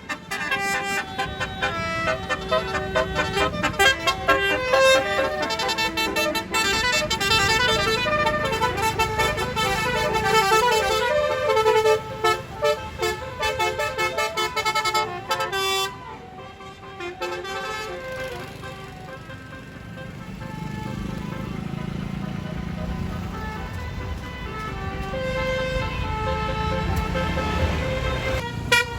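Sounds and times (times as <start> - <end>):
musical bus horn playing a tune: 0.0 - 28.9.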